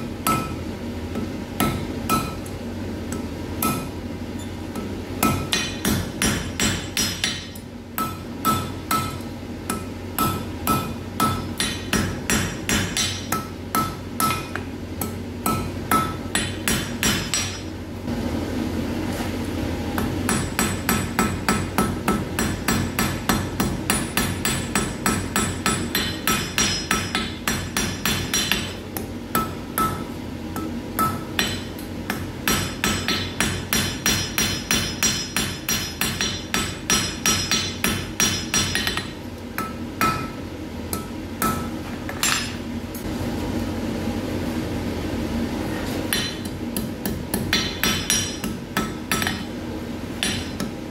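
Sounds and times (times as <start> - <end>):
hammer striking iron on anvil: 0.2 - 17.7, 20.0 - 42.6, 46.1 - 49.6, 50.2 - 50.8.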